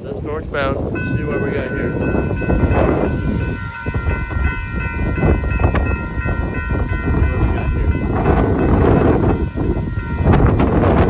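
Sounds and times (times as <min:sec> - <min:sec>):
freight train rumble: 0:00.0 - 0:11.0
wind buffeting microphone: 0:00.0 - 0:11.0
crossing warning bell ringing: 0:00.7 - 0:11.0.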